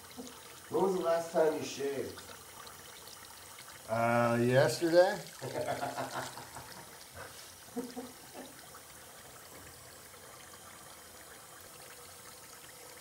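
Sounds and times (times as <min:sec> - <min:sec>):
tap water trickling into sink: 0:00.0 - 0:13.0.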